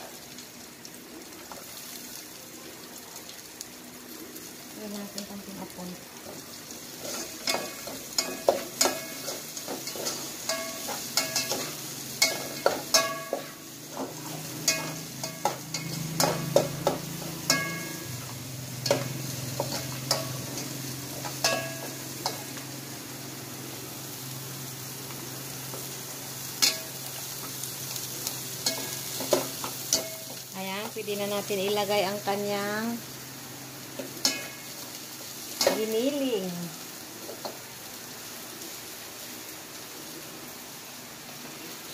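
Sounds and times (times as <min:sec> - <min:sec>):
onion and garlic sizzling in oil: 0:00.0 - 0:41.9.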